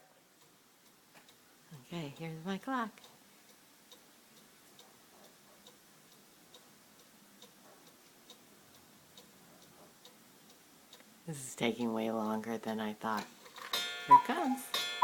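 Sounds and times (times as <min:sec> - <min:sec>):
clock ticking faintly: 0:00.0 - 0:15.0.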